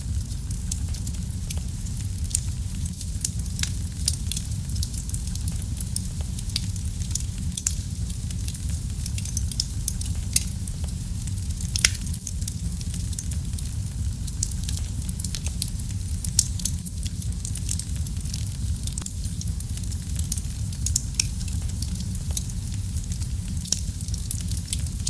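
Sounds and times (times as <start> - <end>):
wood fire burning: 0.0 - 25.0.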